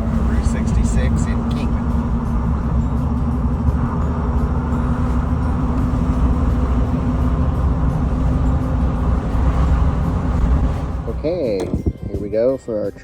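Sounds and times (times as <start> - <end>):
constant low hum: 0.0 - 12.1
car road and engine rumble: 0.0 - 13.0.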